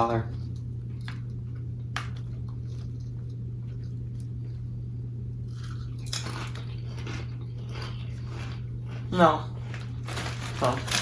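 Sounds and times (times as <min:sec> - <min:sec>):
steady low hum: 0:00.0 - 0:11.0
chewing crunchy chips: 0:00.3 - 0:04.6, 0:05.4 - 0:11.0.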